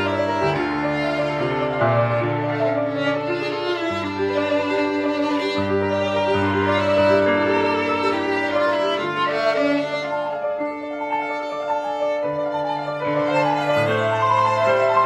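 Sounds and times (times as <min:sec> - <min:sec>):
piano accompaniment: 0:00.0 - 0:15.0
violin melody: 0:00.0 - 0:15.0.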